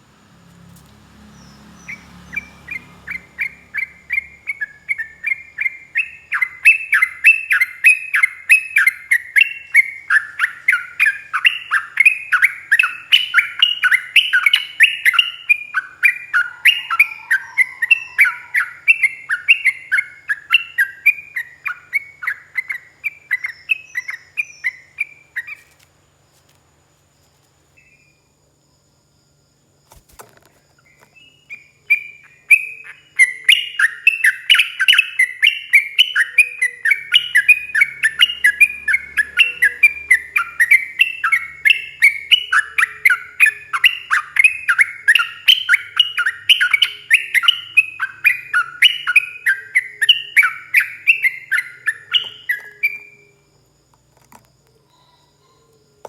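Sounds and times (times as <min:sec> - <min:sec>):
bulbul chirping song: 0:01.3 - 0:25.8, 0:30.8 - 0:56.0.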